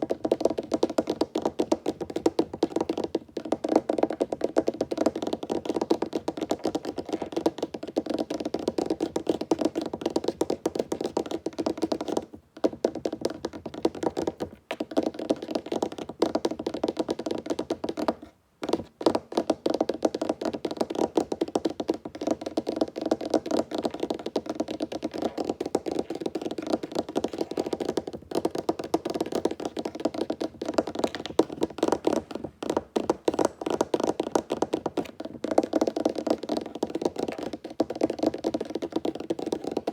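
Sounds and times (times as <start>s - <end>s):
fingertips tapping on wood: 0.0s - 39.9s.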